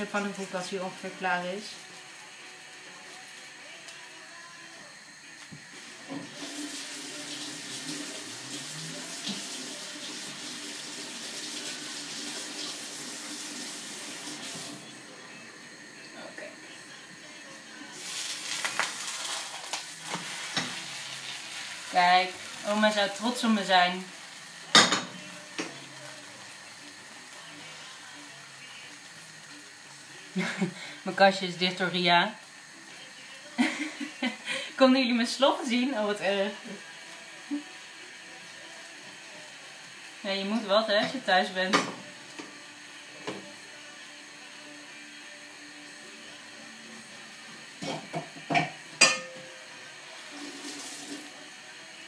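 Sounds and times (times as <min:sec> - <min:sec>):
pancake sizzling: 0:00.0 - 0:52.0.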